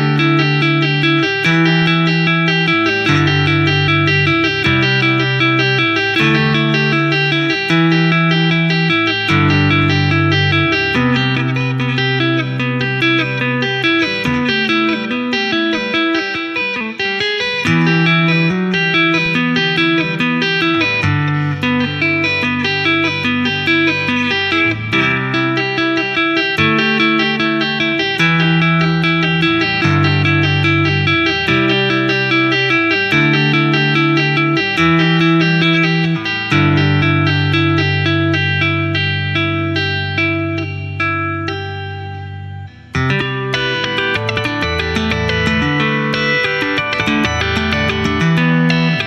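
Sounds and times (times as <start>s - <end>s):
electric guitar tapping: 0.0s - 49.0s.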